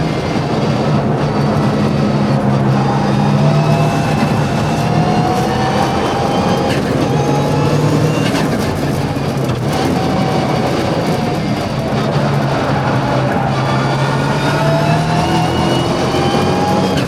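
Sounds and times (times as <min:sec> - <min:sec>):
rally car engine accelerating: 0:00.0 - 0:17.0
sharp crack at gear changes: 0:00.0 - 0:17.0.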